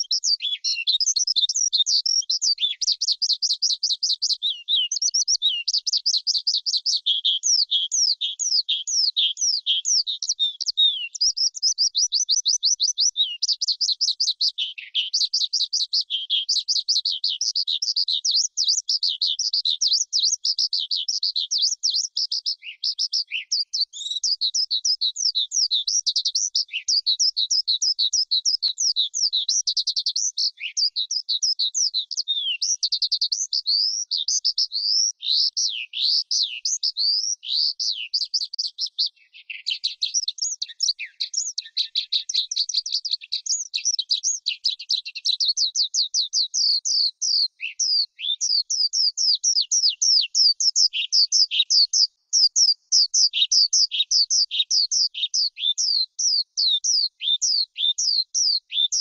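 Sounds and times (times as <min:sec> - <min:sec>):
skylark singing: 0:00.0 - 0:59.0.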